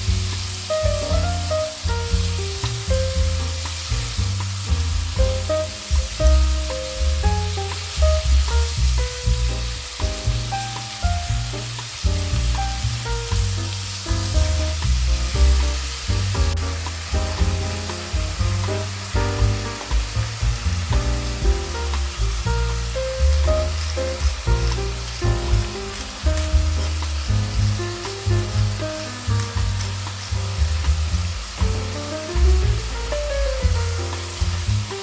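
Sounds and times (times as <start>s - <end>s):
background music: 0.0s - 30.8s
food sizzling in a frying pan: 0.0s - 35.0s.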